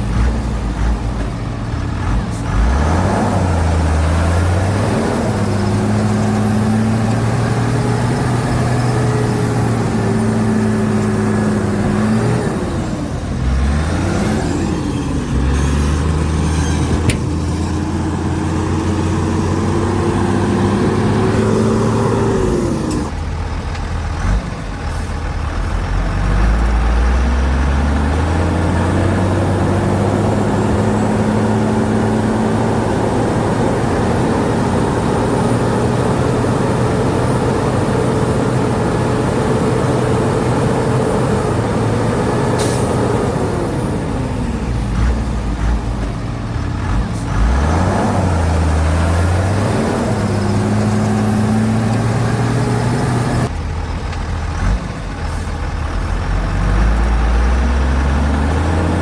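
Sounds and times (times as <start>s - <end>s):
heavy diesel engine working: 0.0s - 59.0s.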